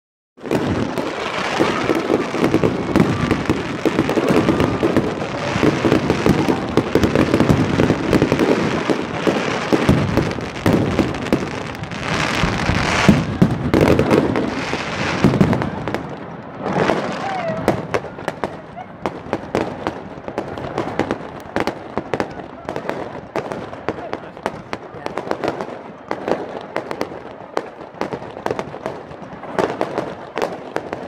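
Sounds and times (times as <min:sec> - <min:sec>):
fireworks crackling: 0:00.4 - 0:31.0.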